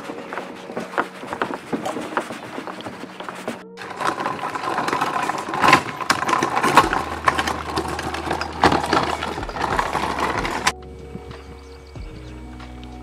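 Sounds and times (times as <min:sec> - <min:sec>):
cart wheels rolling over gravel: 0:00.0 - 0:10.8.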